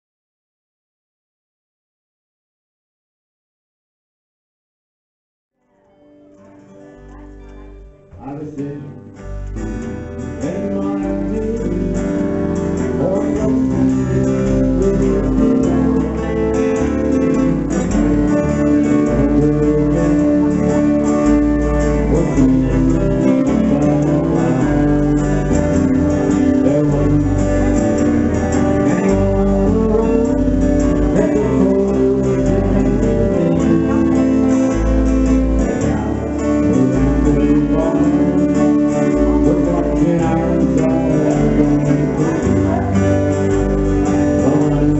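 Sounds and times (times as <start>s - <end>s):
electric lead guitar: 5.7s - 44.9s
strummed acoustic guitars: 5.7s - 44.9s
live country band playing: 5.8s - 44.9s
electric bass: 6.9s - 44.9s.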